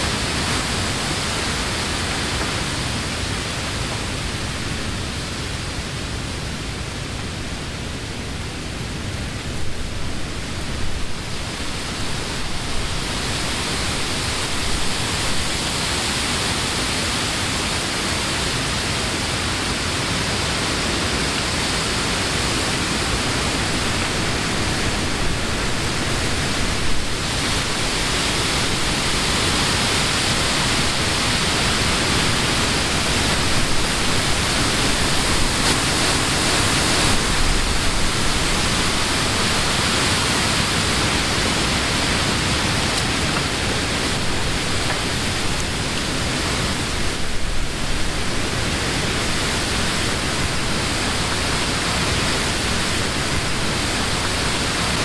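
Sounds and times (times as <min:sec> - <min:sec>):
wind rustling leaves: 0:00.0 - 0:55.0.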